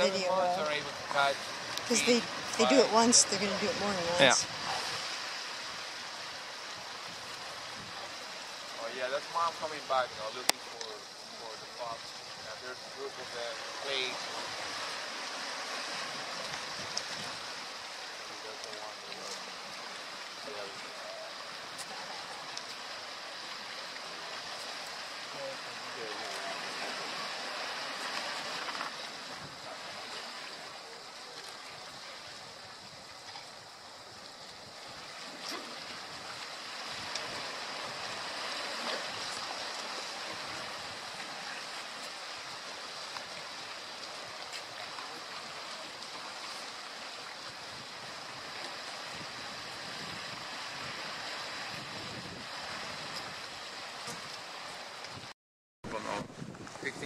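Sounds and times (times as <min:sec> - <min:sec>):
sea surf washing on rocky shore: 0:00.0 - 0:55.3.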